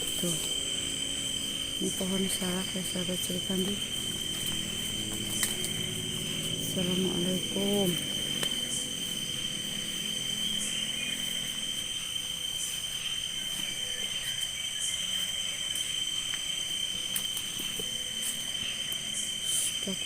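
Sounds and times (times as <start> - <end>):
insect chirps: 0.0 - 20.0
insects trilling: 0.0 - 20.0.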